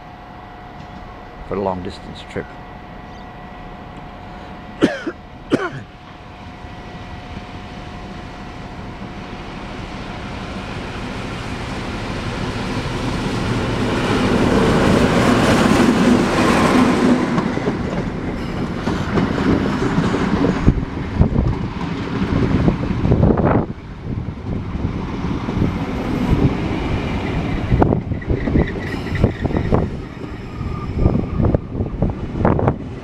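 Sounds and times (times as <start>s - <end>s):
diesel train rolling past: 0.0s - 33.0s.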